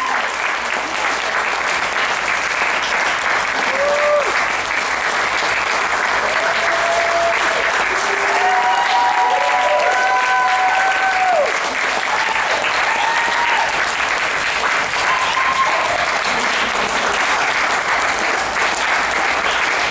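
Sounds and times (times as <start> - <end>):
audience applauding: 0.0 - 19.9
people cheering: 0.0 - 19.9.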